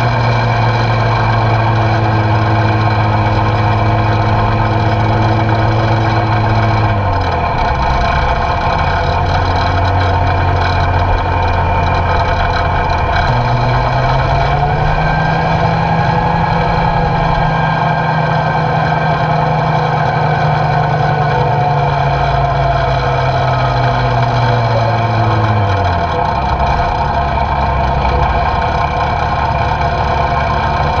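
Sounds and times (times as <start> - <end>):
diesel truck engine humming: 0.0 - 31.0.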